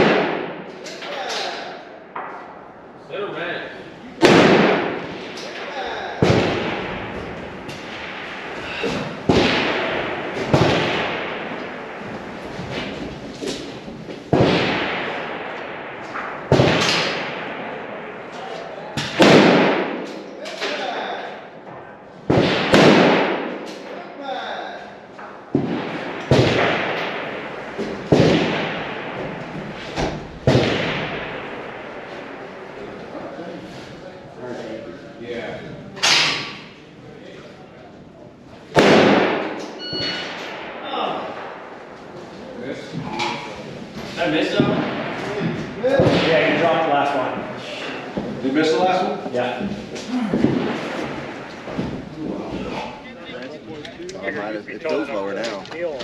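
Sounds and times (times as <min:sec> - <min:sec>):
rifle shots with rolling echo: 0:00.0 - 0:37.1, 0:37.9 - 0:56.0.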